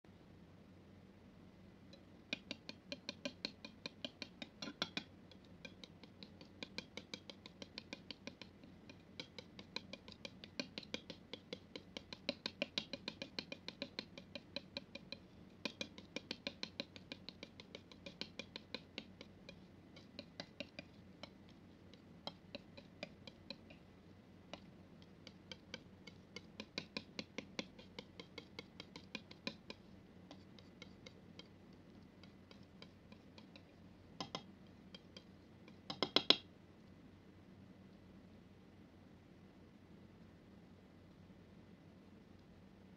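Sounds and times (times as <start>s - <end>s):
palette knife tapping wet paint: 1.9s - 36.5s.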